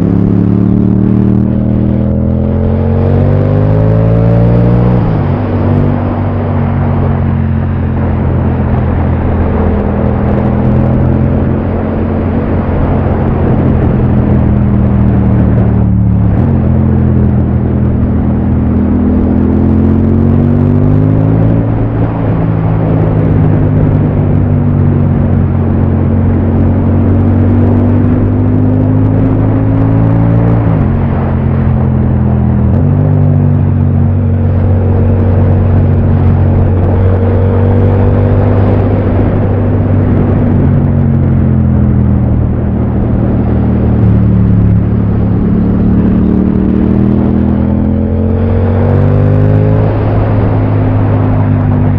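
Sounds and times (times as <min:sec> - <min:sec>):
motorcycle engine revving: 0:00.0 - 0:51.9
steady rushing noise: 0:00.0 - 0:51.9.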